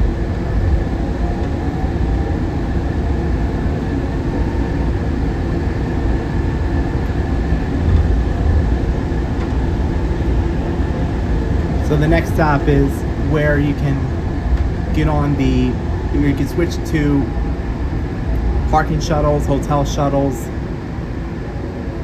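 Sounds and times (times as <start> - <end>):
faint whining tones: 0.0 - 22.0
train cabin low rumble: 0.0 - 22.0.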